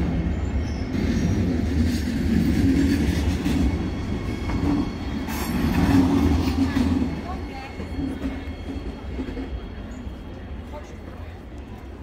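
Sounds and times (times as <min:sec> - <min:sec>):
train rumbling over bridge: 0:00.0 - 0:12.0.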